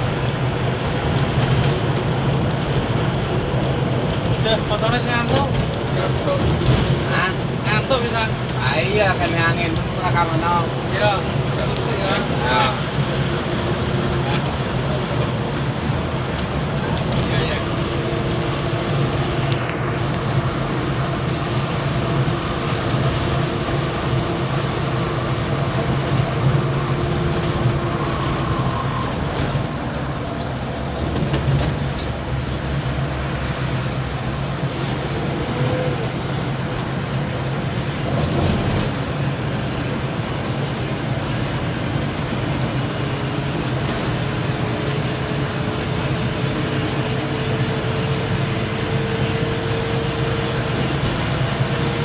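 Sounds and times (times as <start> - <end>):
bus engine hum: 0.0 - 52.0
road rumble: 0.0 - 52.0.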